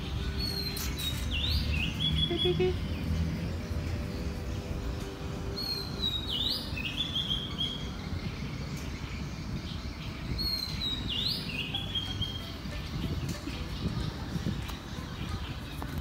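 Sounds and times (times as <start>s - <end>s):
low outdoor background noise: 0.0s - 16.0s
songbird singing: 0.0s - 16.0s.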